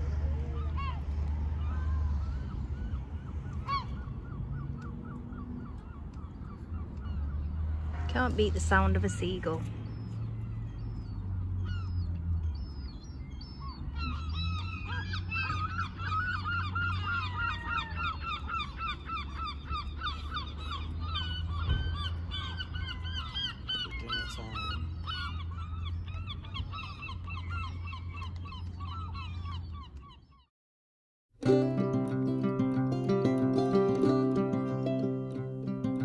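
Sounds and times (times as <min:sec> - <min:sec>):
seagulls calling: 0:00.0 - 0:30.5, 0:31.5 - 0:36.0.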